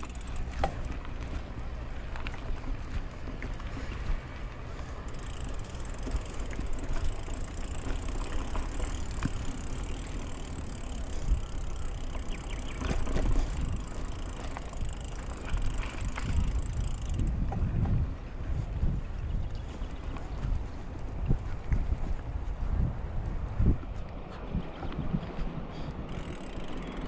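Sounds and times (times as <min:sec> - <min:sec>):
bike clicks and rattles: 0:00.0 - 0:27.0
bike tyres rolling on dirt: 0:00.0 - 0:27.0
wind rumble on microphone: 0:00.0 - 0:27.0.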